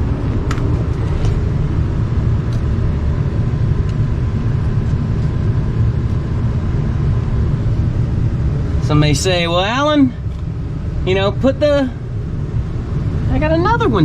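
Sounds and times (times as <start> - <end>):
hvac unit low rumble: 0.0 - 14.0.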